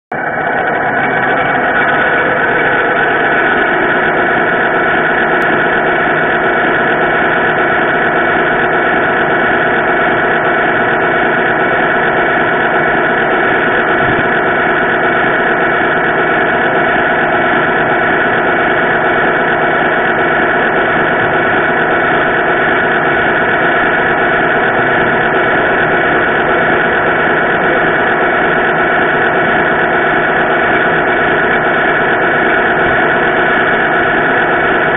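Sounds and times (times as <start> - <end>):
model truck engine drone: 0.1 - 34.9.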